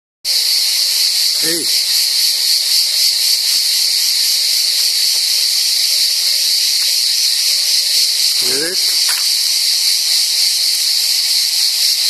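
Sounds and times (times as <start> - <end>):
cicadas buzzing: 0.3 - 12.0.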